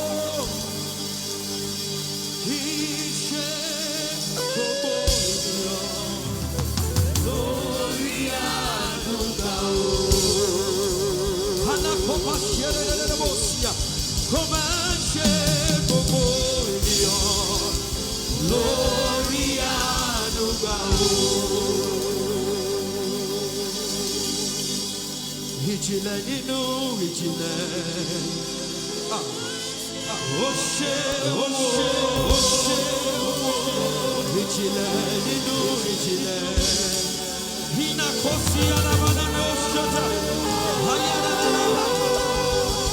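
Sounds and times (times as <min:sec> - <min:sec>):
drums and bass: 0:00.0 - 0:27.8, 0:31.9 - 0:42.9
gospel band: 0:00.0 - 0:42.9
person singing with vibrato: 0:00.0 - 0:42.9.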